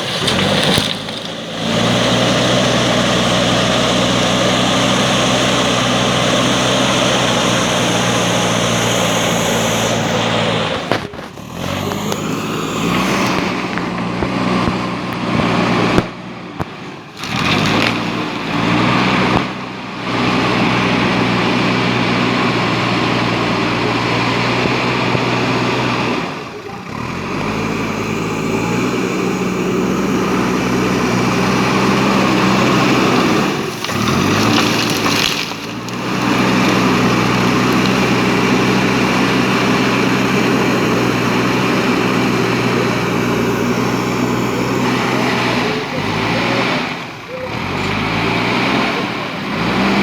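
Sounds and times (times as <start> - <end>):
backhoe diesel engine running: 0.0 - 50.0.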